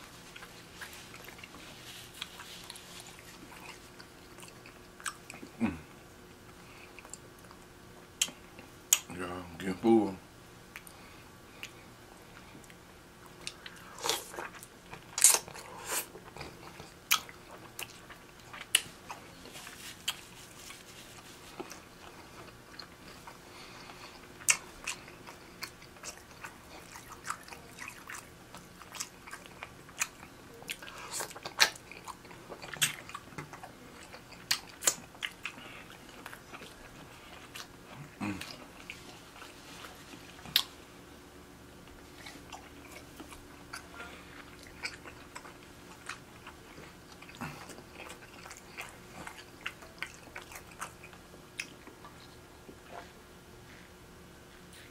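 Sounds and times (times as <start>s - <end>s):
person chewing seafood: 0.0s - 5.9s, 10.7s - 40.8s, 41.9s - 53.0s.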